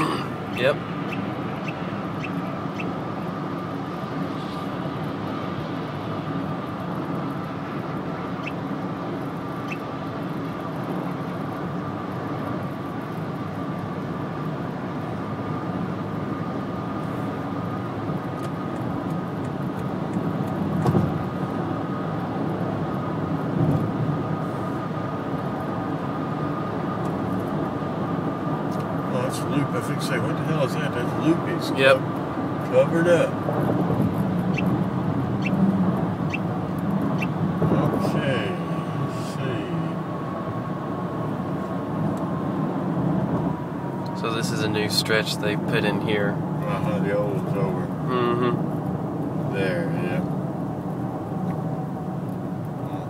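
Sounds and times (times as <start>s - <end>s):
car road and engine noise: 0.0s - 53.0s.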